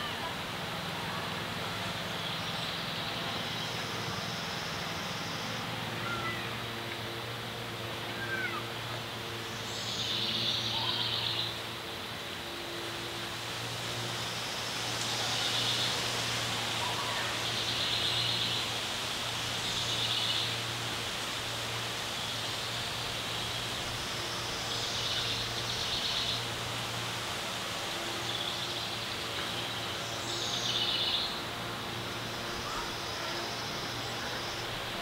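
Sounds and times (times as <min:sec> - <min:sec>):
high buzzy bird songs: 0:00.0 - 0:35.0
low background hum and rush: 0:00.0 - 0:35.0.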